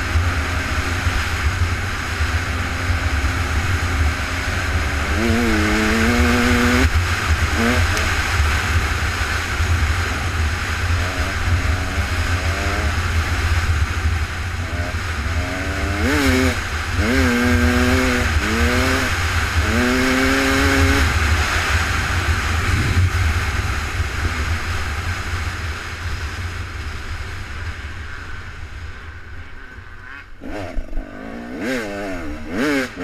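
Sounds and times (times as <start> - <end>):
vehicle engine revving: 0.0 - 25.5, 27.3 - 33.0.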